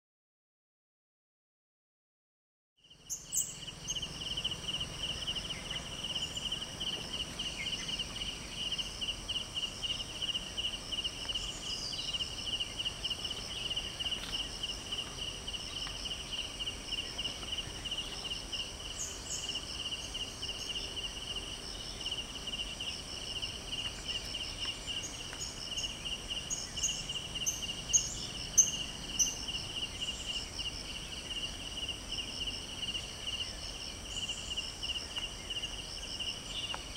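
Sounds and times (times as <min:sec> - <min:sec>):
insects trilling: 0:02.8 - 0:36.9.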